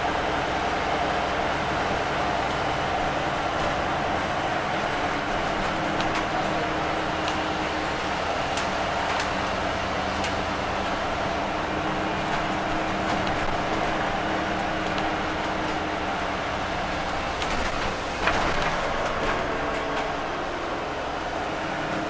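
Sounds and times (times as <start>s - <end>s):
bus engine hum: 0.0s - 22.0s
road noise: 0.0s - 22.0s.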